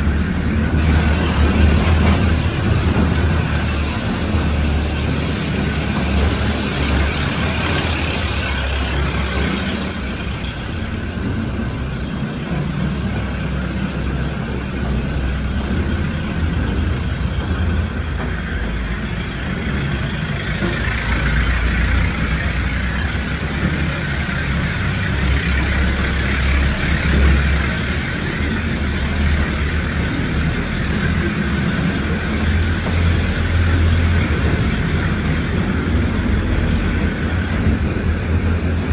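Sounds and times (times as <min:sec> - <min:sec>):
mine train rumbling in tunnel: 0:00.0 - 0:38.9.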